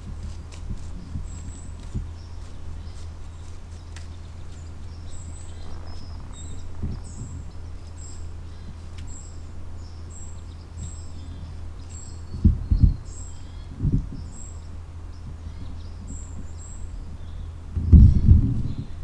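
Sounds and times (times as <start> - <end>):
small bird chirping: 0.0 - 19.0
steady low hum: 0.0 - 19.0.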